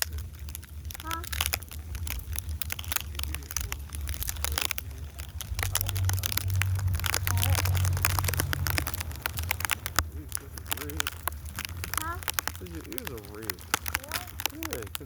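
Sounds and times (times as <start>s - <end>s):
low rumble: 0.0s - 15.0s
snow crunching: 0.0s - 15.0s.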